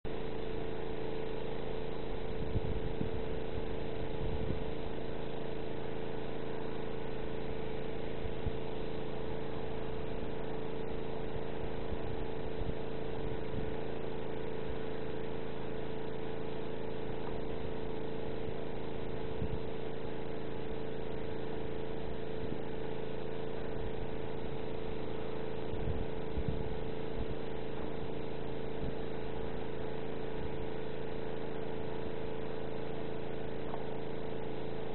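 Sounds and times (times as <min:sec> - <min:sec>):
motor humming: 0:00.1 - 0:34.9.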